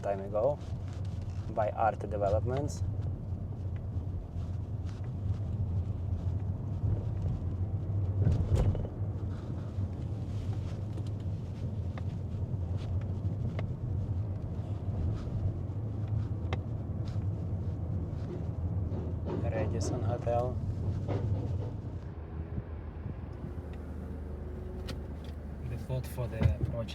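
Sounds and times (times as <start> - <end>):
car driving rumble: 0.0 - 26.9.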